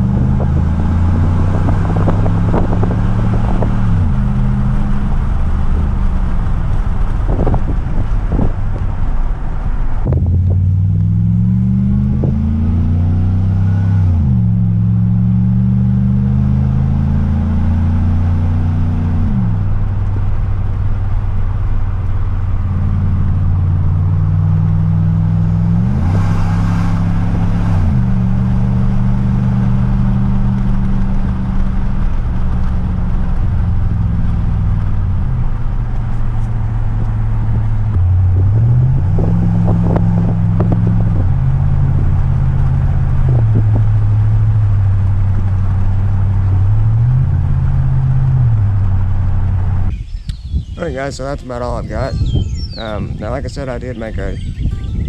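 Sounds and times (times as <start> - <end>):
car exhaust while driving: 0.0 - 55.0.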